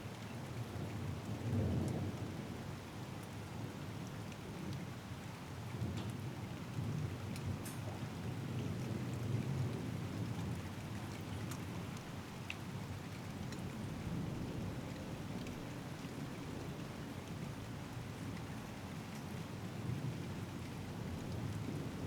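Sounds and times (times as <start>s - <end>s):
rain falling: 0.1s - 22.0s.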